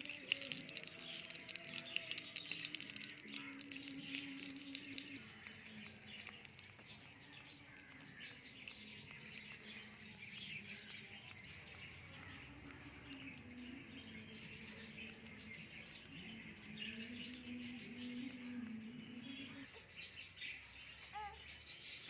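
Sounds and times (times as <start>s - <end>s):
oil sizzling and popping: 0.0s - 19.7s.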